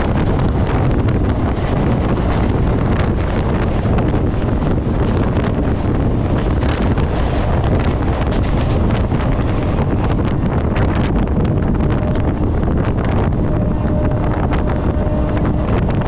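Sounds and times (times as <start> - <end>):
passing train coaches: 0.0 - 16.0
train running on track: 0.0 - 16.0
wind rushing over camera: 0.0 - 16.0.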